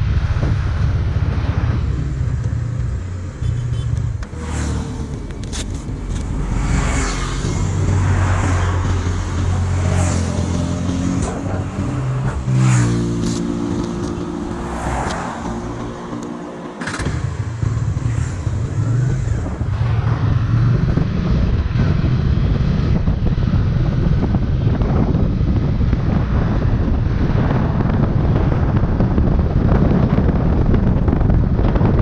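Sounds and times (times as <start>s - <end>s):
engines humming: 0.0s - 32.0s
vehicles passing on highway: 0.0s - 32.0s.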